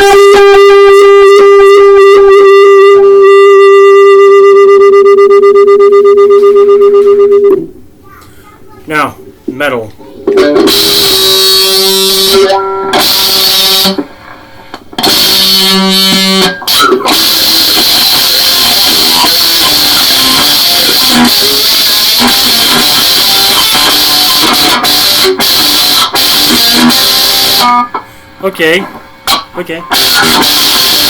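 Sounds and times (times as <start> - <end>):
distorted electric guitar: 0.0 - 5.4, 9.2 - 31.0.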